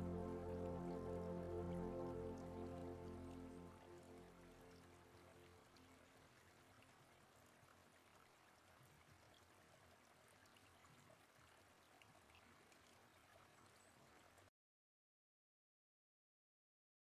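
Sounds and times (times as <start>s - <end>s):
faint trickling water: 0.0s - 14.5s.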